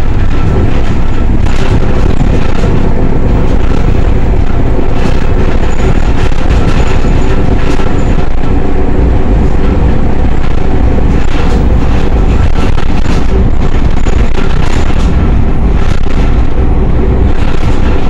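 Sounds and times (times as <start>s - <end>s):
bodywork rattling: 0.0s - 18.0s
bus engine running under load: 0.0s - 18.0s.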